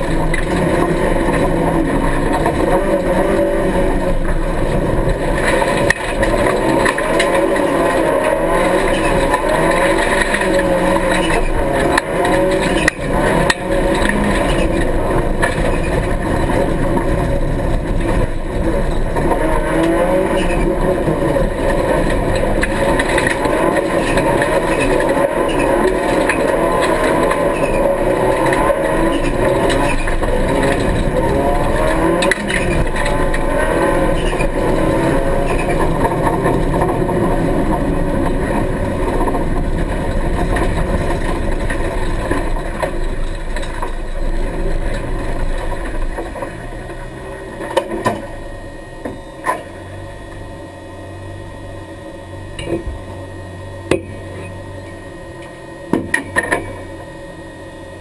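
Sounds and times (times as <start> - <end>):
sharp clicks and knocks: 0.0 - 3.3, 4.1 - 48.3
car engine running: 0.0 - 58.0.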